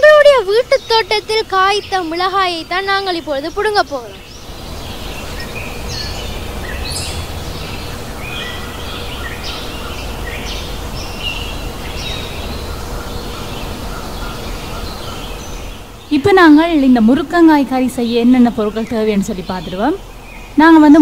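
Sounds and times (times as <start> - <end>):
steady low rumble: 0.0 - 20.2
birds chirping: 0.0 - 21.0.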